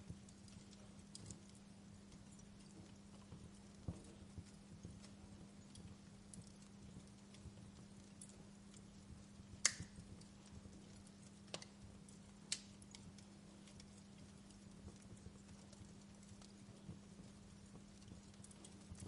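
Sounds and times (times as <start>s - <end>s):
faint low hum: 0.0s - 19.0s
wood fire crackling and popping: 0.0s - 19.0s.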